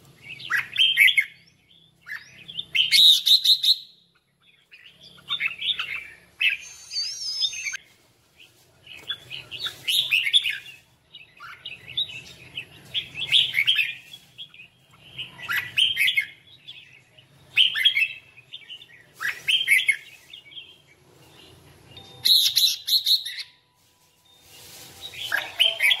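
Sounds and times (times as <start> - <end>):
bird warbling song: 0.2 - 7.8, 8.9 - 23.6, 24.2 - 26.0.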